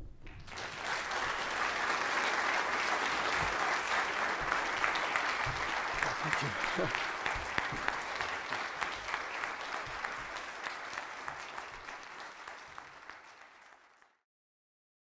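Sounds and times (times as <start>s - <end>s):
audience applauding: 0.3s - 14.2s.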